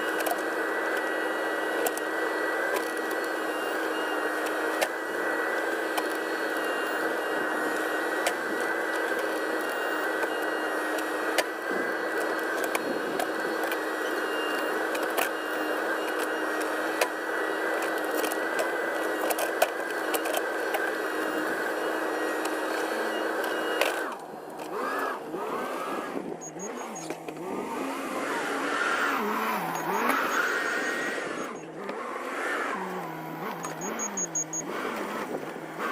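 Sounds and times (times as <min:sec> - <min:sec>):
diesel engine and hydraulics: 0:00.0 - 0:35.9.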